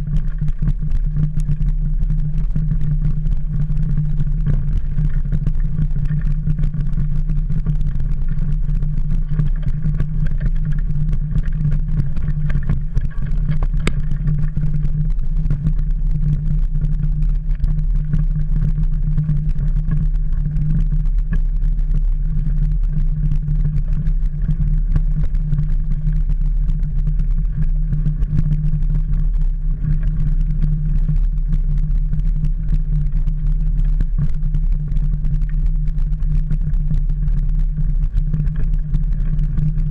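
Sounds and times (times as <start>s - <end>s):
wind and vibration rumble: 0.0s - 39.9s.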